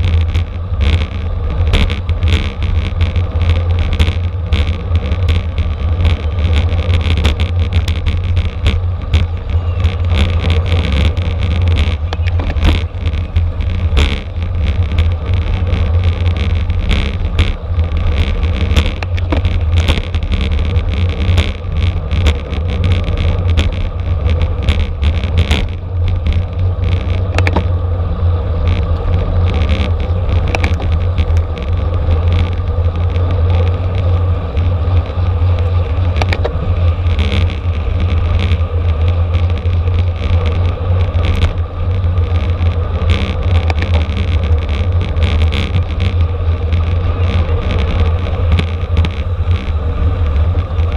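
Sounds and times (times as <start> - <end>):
short clicks and rattles: 0.0 - 27.8, 28.6 - 49.7
wind buffeting microphone: 0.0 - 50.9.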